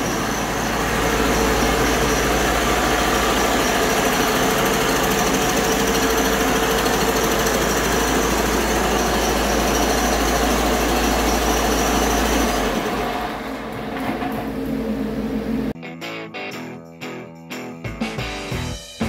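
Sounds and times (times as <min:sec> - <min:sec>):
truck diesel engine running: 0:00.0 - 0:15.8.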